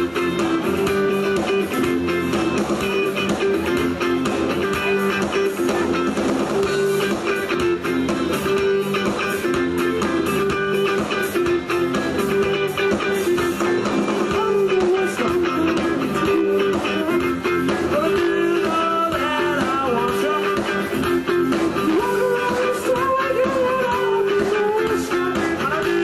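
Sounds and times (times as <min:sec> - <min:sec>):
live band with guitar: 0:00.0 - 0:26.0.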